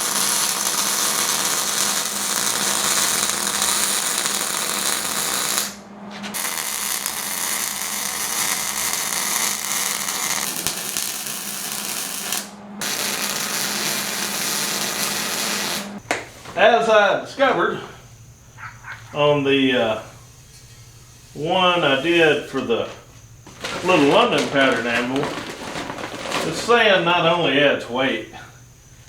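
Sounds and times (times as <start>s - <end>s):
arc welding crackling sizzle: 0.0s - 16.7s, 20.3s - 28.2s.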